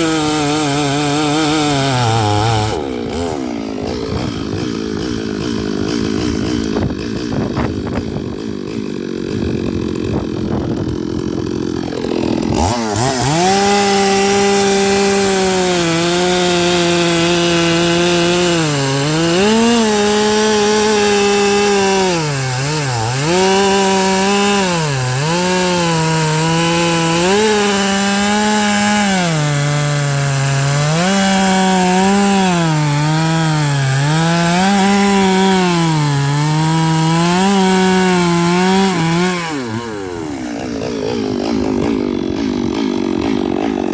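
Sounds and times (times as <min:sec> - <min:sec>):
chainsaw cutting logs: 0:00.0 - 0:43.9.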